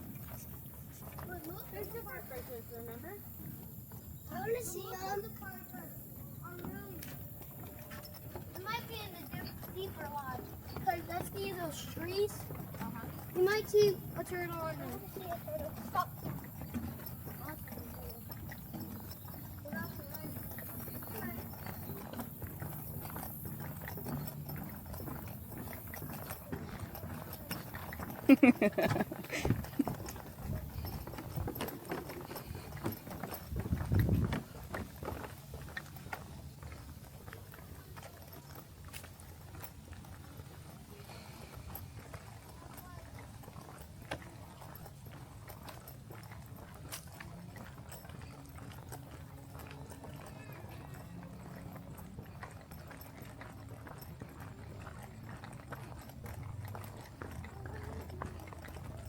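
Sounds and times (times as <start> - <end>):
footsteps crunching on a trail: 0.0 - 59.0.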